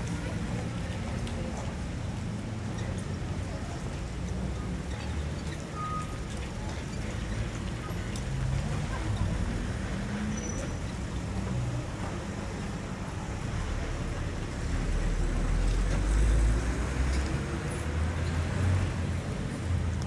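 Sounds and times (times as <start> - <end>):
street traffic rumbling: 0.0 - 20.0.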